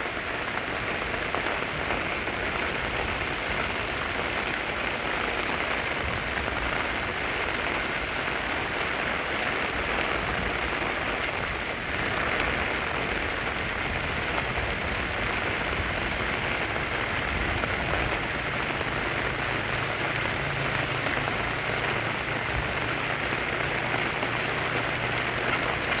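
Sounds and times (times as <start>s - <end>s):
rain on leaves and ground: 0.0s - 26.0s.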